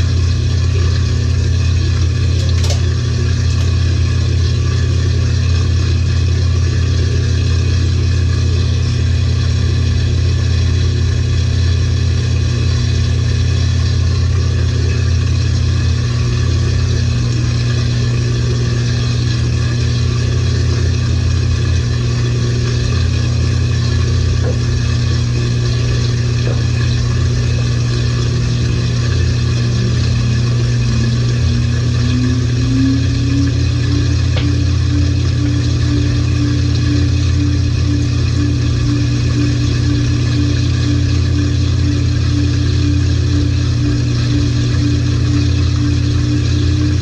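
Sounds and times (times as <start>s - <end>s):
rising whine of spinning drum: 0.0s - 47.0s
washing machine motor hum: 0.0s - 47.0s.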